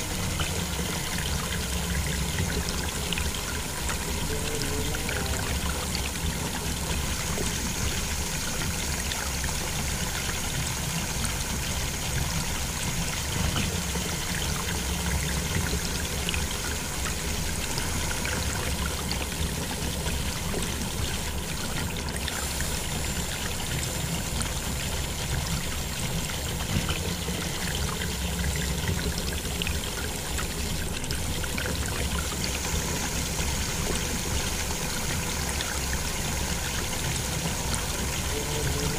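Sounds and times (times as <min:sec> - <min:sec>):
water pouring into a pool: 0:00.0 - 0:38.9.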